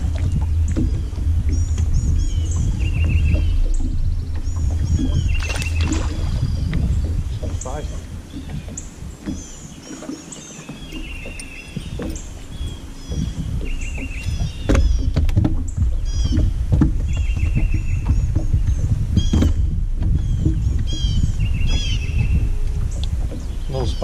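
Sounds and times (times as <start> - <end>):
low rumble: 0.0 - 10.2, 10.8 - 24.0
songbirds singing: 0.0 - 24.0.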